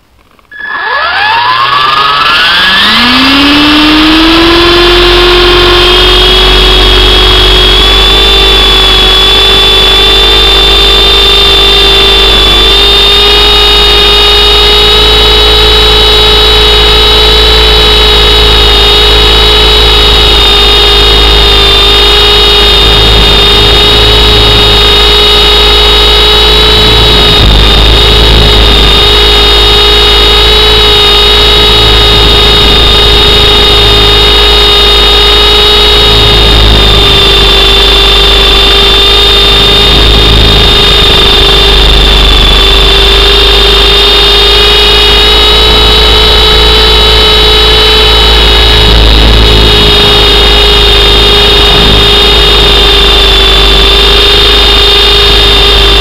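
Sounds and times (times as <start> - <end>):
helicopter motor and rotor whine: 0.0 - 56.0.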